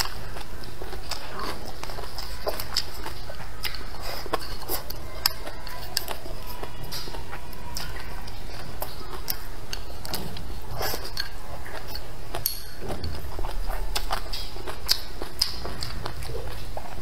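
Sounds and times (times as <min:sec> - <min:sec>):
person chewing food: 0:00.0 - 0:17.0
teeth clicking: 0:00.0 - 0:17.0.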